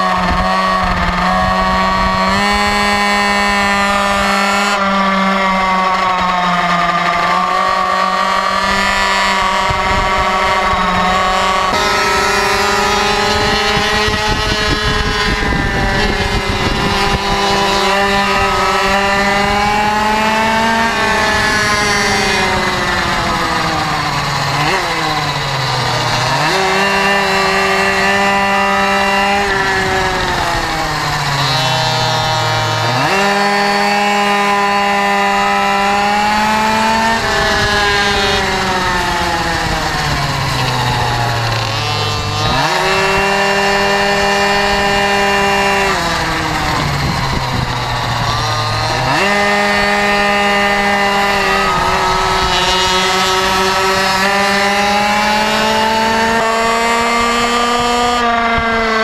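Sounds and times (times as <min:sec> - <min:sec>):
small two-stroke engine buzzing: 0:00.0 - 0:59.0.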